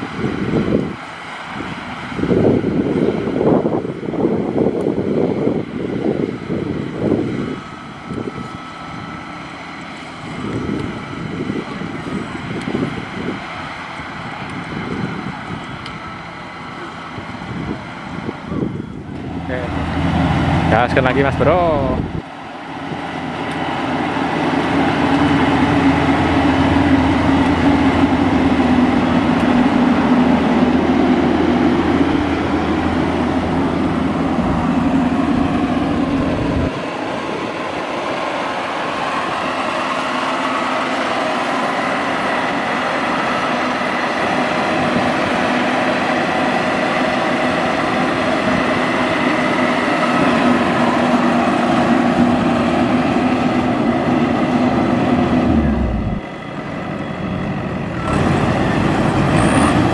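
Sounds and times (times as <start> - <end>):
harvester engine rumbling: 0.0 - 59.9.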